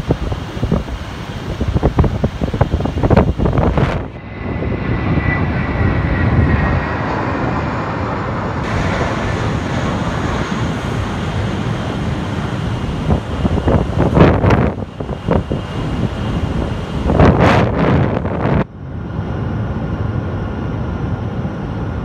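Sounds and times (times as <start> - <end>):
wind buffeting microphone: 0.0 - 19.4
jet airliner engines roaring: 0.0 - 22.0.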